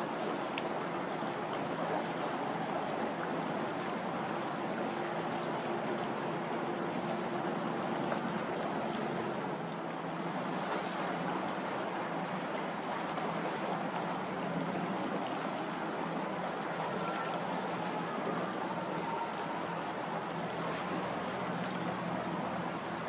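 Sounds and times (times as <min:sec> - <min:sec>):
ship engine hum: 0:00.0 - 0:23.0
water rushing: 0:00.0 - 0:23.0.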